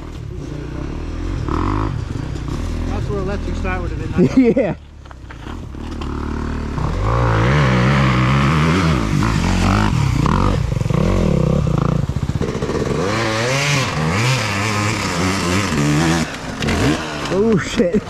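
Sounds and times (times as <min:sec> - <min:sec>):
dirt bike engine revving: 0:00.0 - 0:04.8, 0:05.4 - 0:18.0.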